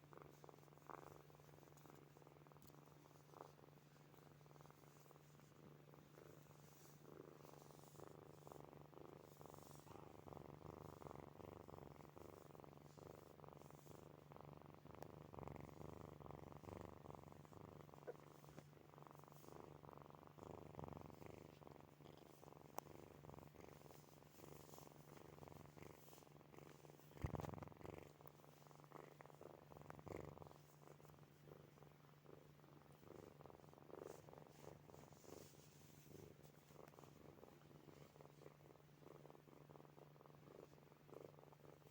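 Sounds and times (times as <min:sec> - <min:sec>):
kitten purring: 0:00.0 - 0:41.9.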